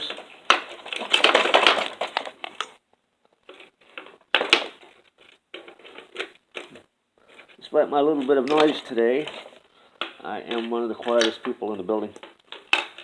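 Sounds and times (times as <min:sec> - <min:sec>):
plastic and metal parts clattering: 0:00.0 - 0:13.0.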